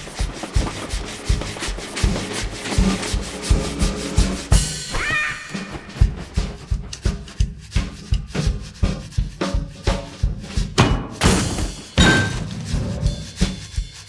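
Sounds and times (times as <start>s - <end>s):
drum kit steady rhythm: 0.0s - 14.0s.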